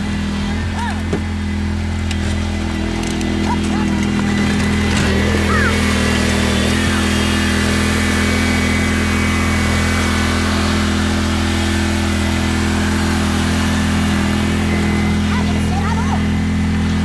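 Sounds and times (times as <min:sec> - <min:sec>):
mower engine running: 0:00.0 - 0:17.0.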